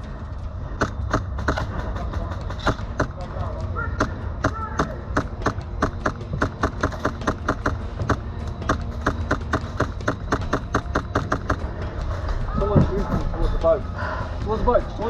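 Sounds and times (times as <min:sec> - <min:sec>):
running footsteps: 0:00.8 - 0:15.0.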